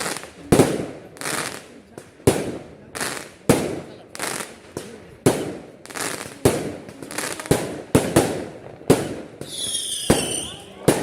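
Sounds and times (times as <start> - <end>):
fireworks bangs with crackle: 0.0 - 11.0.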